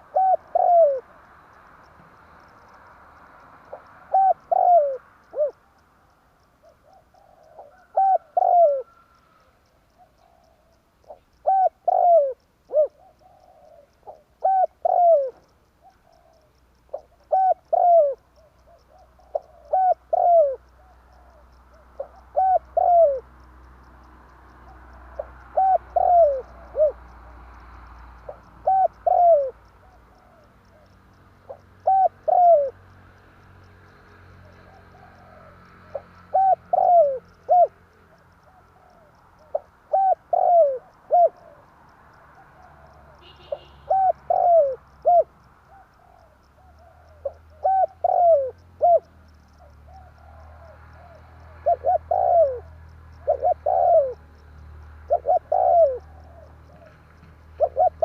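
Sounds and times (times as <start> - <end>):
dove cooing: 0.0 - 1.4, 3.6 - 5.8, 6.6 - 23.5, 24.6 - 32.9, 34.4 - 58.0.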